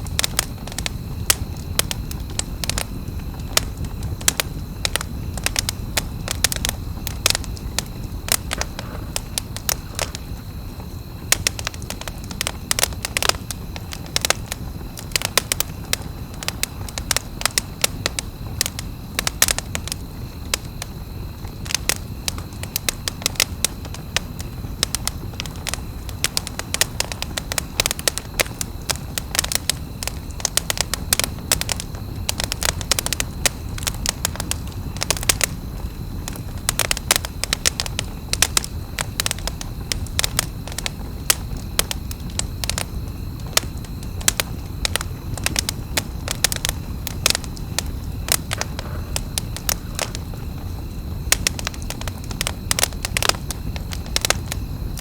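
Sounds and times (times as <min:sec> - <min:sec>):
campfire crackling and popping: 0:00.0 - 0:55.0
low rumble of burning fire: 0:00.0 - 0:55.0.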